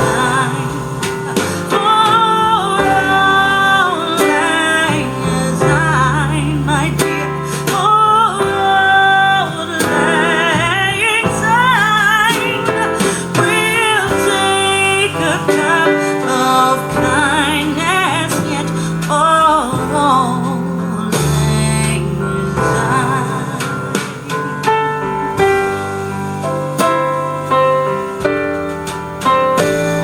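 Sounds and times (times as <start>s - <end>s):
guitar: 0.0s - 30.0s
person singing: 0.0s - 30.0s.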